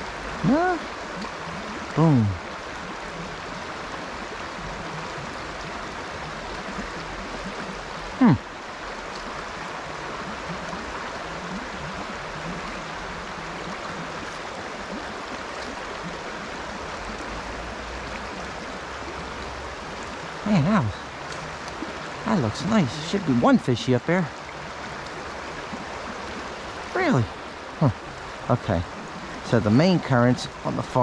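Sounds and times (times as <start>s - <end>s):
flowing stream water: 0.0s - 31.0s.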